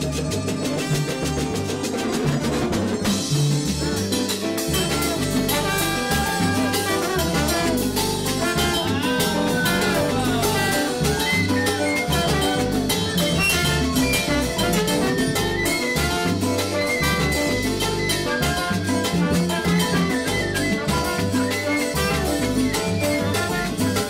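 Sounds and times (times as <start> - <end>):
live salsa band playing: 0.0 - 24.0
trombone: 0.0 - 24.0.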